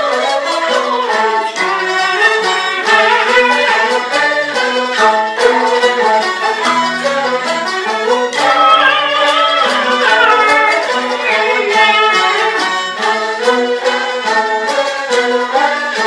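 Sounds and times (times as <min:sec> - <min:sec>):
bowed fiddle melody: 0:00.0 - 0:16.0.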